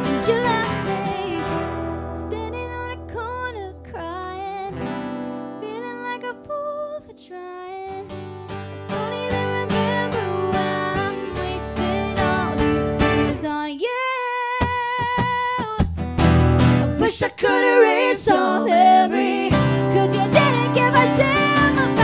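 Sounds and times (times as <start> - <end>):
woman singing: 0.0 - 4.9, 5.5 - 8.1, 8.8 - 15.9, 16.8 - 22.0
acoustic guitars strumming: 0.0 - 6.4, 8.0 - 13.5, 15.0 - 22.0.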